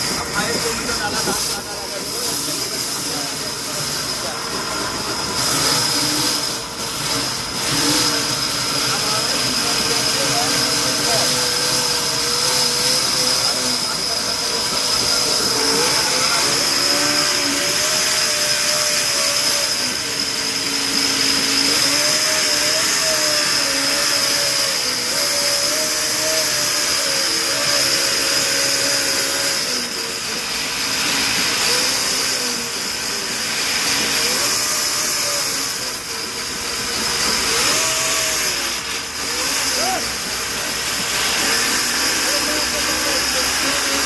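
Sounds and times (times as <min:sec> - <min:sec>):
saw cutting wood: 0:00.0 - 0:44.0.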